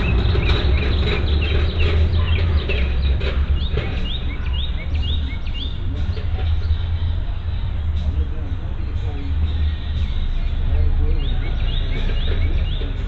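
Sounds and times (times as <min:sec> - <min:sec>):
bird chirping rapidly: 0:00.0 - 0:07.1, 0:09.4 - 0:13.0
loud steady low rumble: 0:00.0 - 0:13.0.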